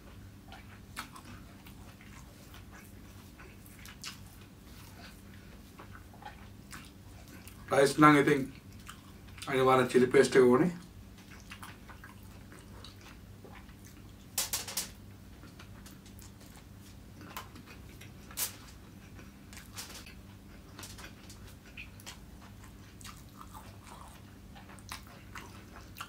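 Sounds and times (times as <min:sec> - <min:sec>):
person chewing food: 0:00.0 - 0:07.7, 0:08.5 - 0:09.5, 0:10.8 - 0:14.4, 0:15.2 - 0:26.0
faint steady hum: 0:00.0 - 0:26.0.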